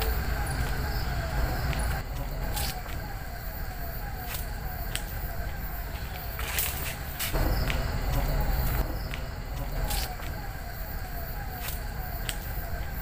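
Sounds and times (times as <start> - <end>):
footsteps in dry undergrowth: 0.0 - 13.0.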